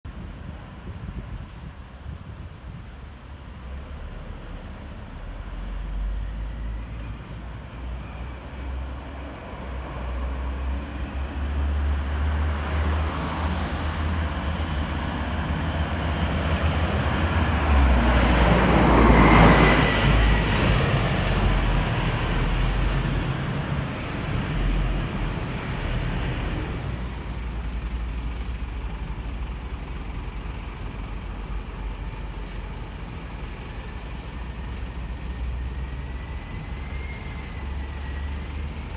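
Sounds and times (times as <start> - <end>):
bus driving past: 3.3 - 38.9.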